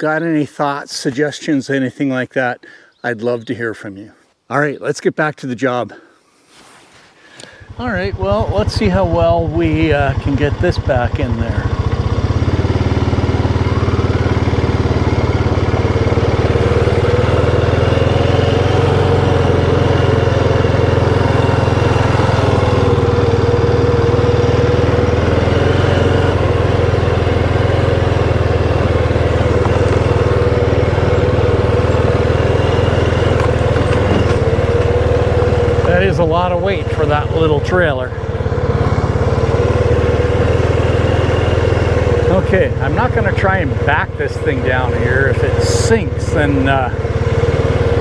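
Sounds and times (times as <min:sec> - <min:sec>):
atv engine running: 0:07.2 - 0:48.0.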